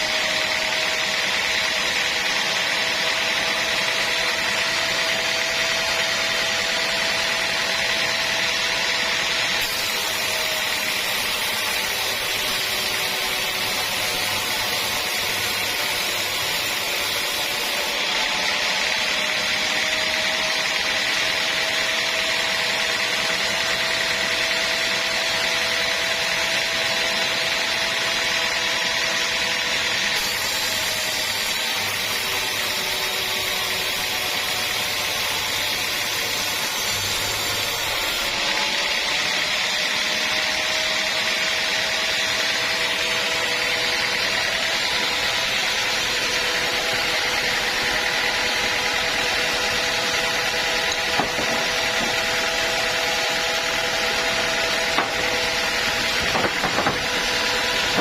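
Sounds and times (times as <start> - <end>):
saw cutting through log: 0.0 - 58.0.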